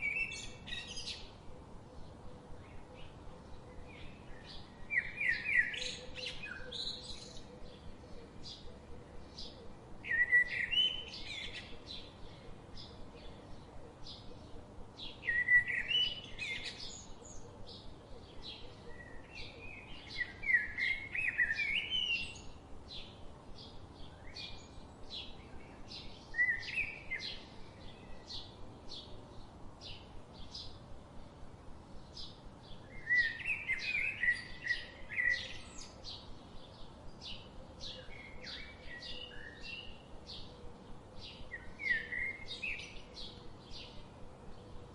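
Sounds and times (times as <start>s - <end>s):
bird warbling song: 0.0s - 30.8s, 32.0s - 44.9s.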